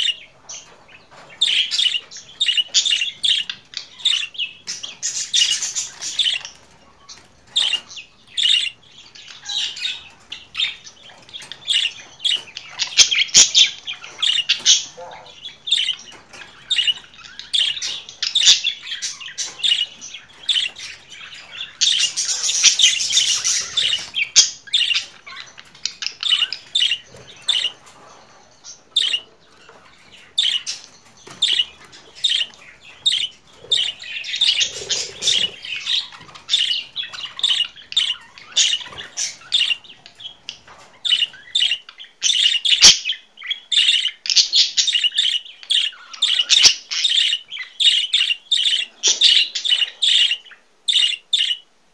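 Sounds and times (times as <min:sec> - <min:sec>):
budgerigars chirping: 0:00.0 - 0:51.7.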